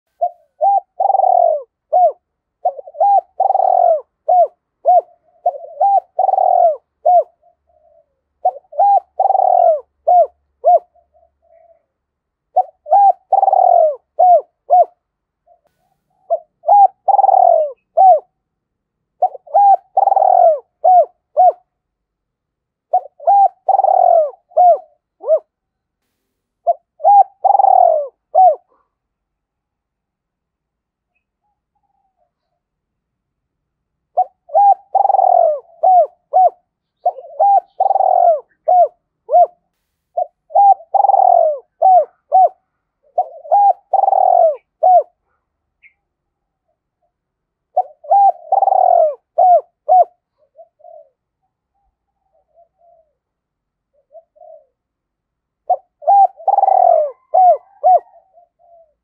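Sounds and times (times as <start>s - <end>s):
dove cooing: 0.1s - 18.4s, 19.1s - 21.8s, 22.8s - 25.7s, 26.6s - 29.0s, 34.1s - 46.0s, 46.6s - 53.3s, 53.9s - 59.0s.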